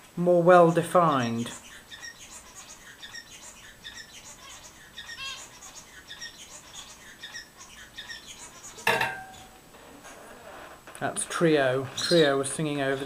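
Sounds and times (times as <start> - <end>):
finch chirping and trilling: 1.0 - 10.3, 11.6 - 13.0.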